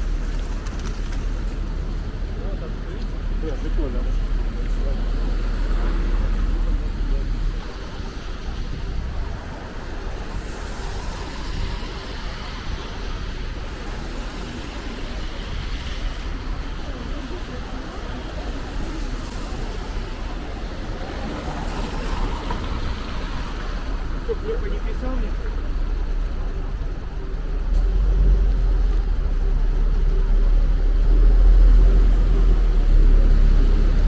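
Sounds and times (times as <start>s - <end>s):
cars passing on road: 0.0s - 34.0s.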